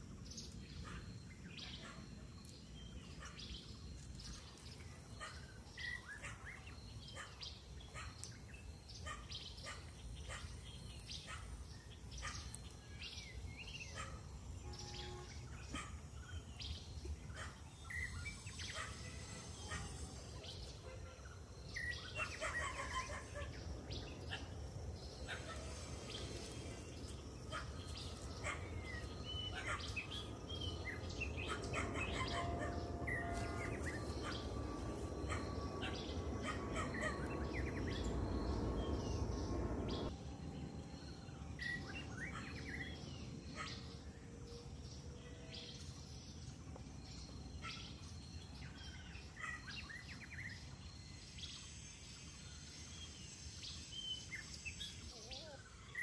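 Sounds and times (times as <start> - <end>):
outdoor background noise: 0.0 - 56.0
birds chirping: 0.2 - 56.0.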